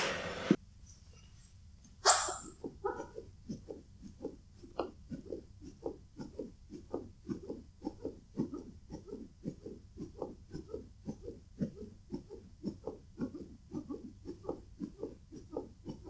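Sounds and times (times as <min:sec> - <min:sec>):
muffled chest compressions: 0:02.6 - 0:16.0.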